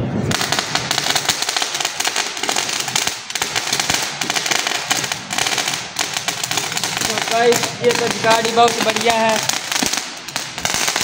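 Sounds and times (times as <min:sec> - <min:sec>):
firecrackers popping: 0:00.0 - 0:11.0.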